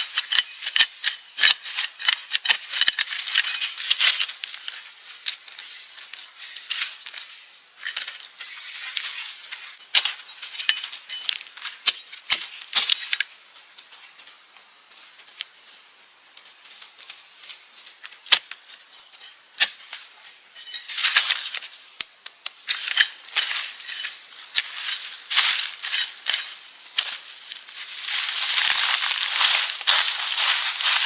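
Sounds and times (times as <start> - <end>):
rustling and crackling: 0.0 - 31.0.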